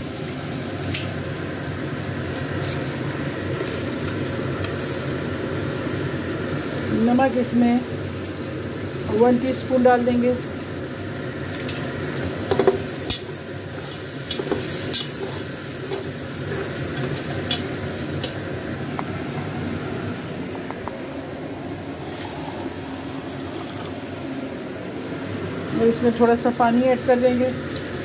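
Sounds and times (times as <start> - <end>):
meat sizzling in a pot: 0.0 - 20.4, 21.7 - 23.8, 25.1 - 28.0.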